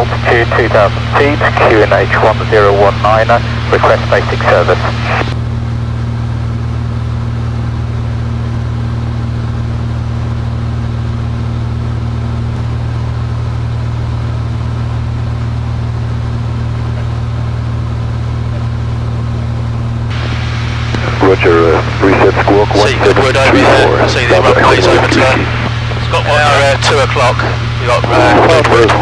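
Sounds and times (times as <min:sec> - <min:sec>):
airplane engine and propeller drone: 0:00.0 - 0:29.0.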